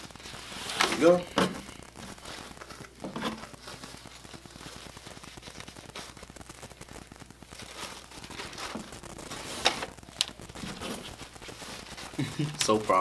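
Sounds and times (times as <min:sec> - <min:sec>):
paper packaging crinkling: 0:00.0 - 0:13.0.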